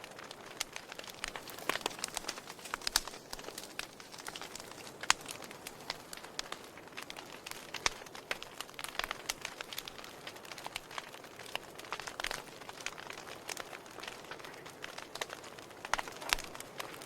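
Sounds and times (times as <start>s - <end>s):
wood fire crackling in fireplace: 0.0s - 17.0s.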